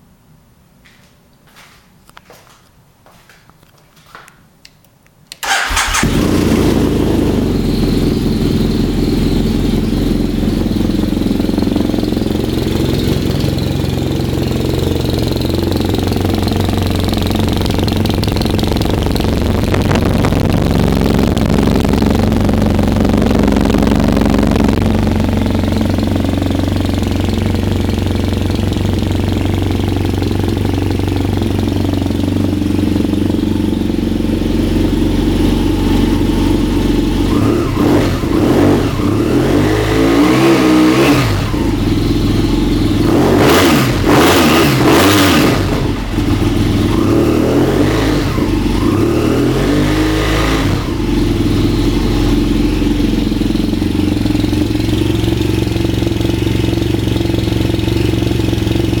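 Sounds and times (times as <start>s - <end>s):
motorcycle engine idling: 5.4s - 59.0s.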